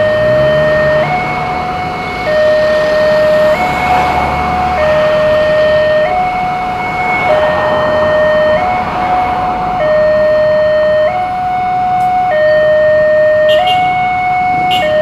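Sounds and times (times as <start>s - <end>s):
two-tone level-crossing siren: 0.0s - 15.0s.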